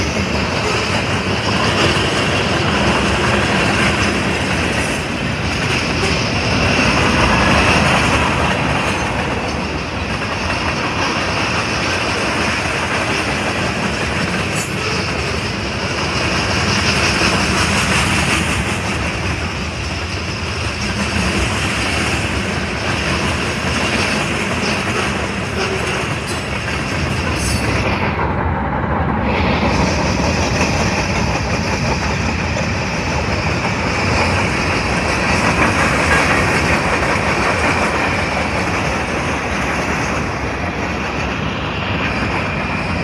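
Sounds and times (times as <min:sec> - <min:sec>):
clickety-clack of rail joints: 0:00.0 - 0:43.0
train wheels rumbling on rails: 0:00.0 - 0:43.0.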